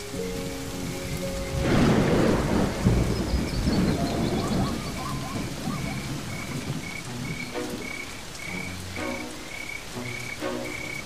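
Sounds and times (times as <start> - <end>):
frogs croaking: 0.0 - 11.0
steady rain: 0.0 - 11.0.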